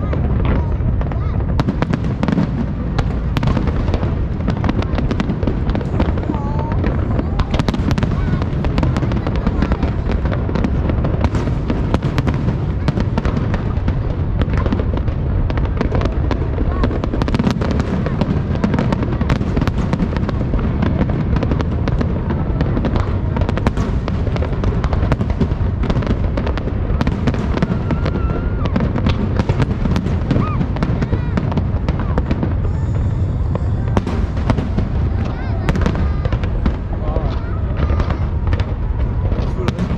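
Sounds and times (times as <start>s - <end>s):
firecrackers crackling: 0.0s - 39.9s
low rumble of booms: 0.0s - 39.9s.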